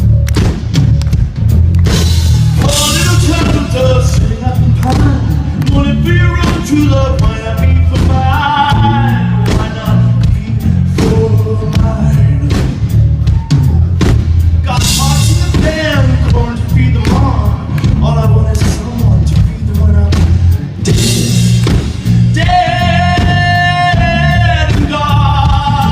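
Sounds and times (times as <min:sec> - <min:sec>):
live band playing: 0:00.0 - 0:25.9
man singing: 0:02.6 - 0:13.1, 0:14.6 - 0:25.9.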